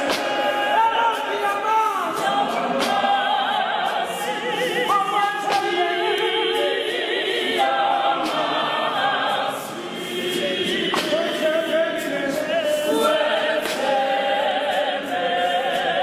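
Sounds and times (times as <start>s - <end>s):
choir singing a hymn a cappella: 0.0s - 16.0s.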